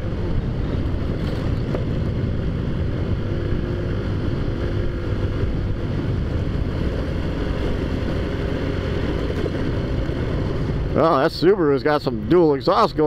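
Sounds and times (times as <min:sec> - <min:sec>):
wind noise on microphone: 0:00.0 - 0:11.1
scooter engine droning: 0:00.0 - 0:11.5.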